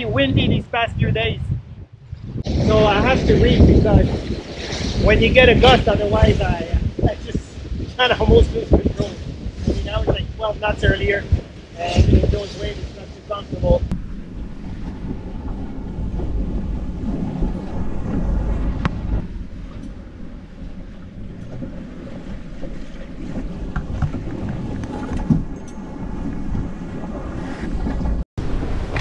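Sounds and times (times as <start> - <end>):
wind buffeting microphone: 0.0 - 29.0
water rushing and spray: 2.4 - 29.0.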